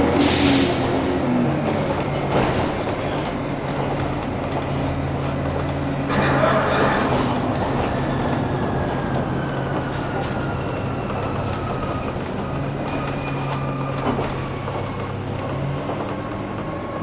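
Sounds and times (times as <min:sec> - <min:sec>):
bus engine low drone: 0:00.0 - 0:17.0.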